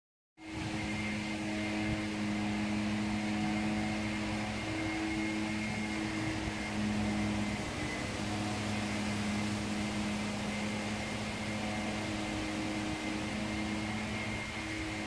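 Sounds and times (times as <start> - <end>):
faint high whine: 0.4 - 15.0
held low tones: 0.4 - 15.0
motor humming: 0.4 - 15.0.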